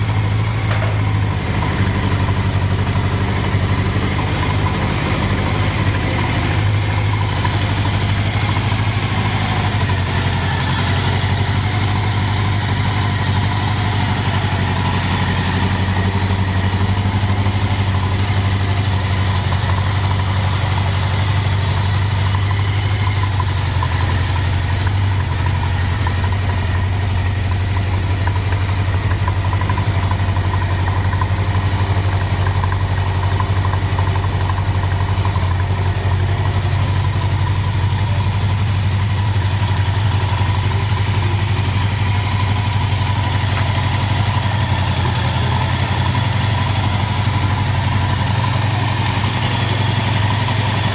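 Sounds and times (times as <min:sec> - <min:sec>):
motorcycle engine idling: 0:00.0 - 0:50.9.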